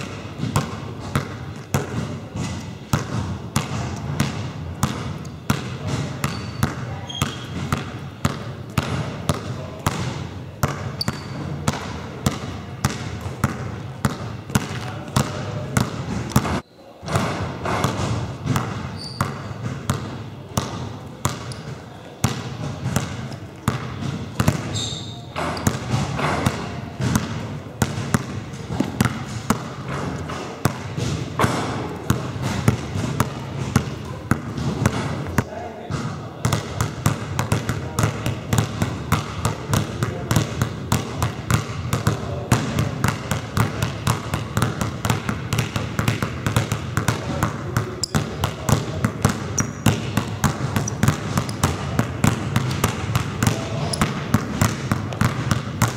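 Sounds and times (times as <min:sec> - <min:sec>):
basketballs bouncing on wooden floor: 0:00.0 - 0:55.9.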